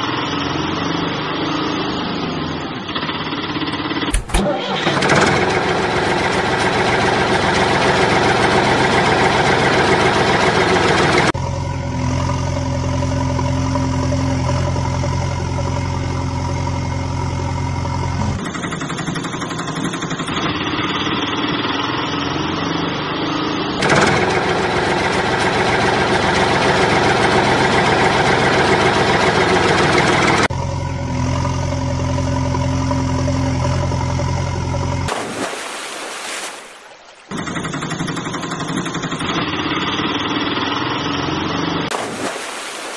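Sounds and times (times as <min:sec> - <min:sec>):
vehicle engine running: 0:00.0 - 0:35.3, 0:37.3 - 0:42.3.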